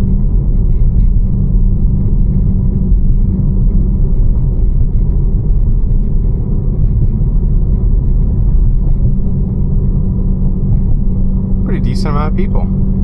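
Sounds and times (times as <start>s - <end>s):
car exhaust drone: 0.0s - 13.0s
road rumble: 0.0s - 13.0s.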